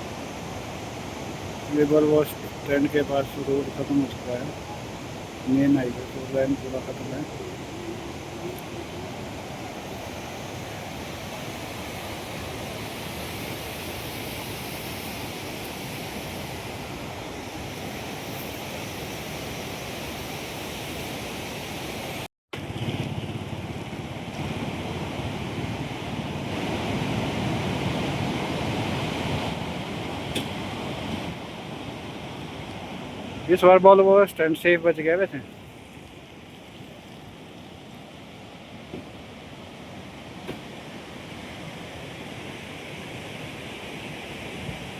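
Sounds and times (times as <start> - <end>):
river rushing: 0.0 - 44.9.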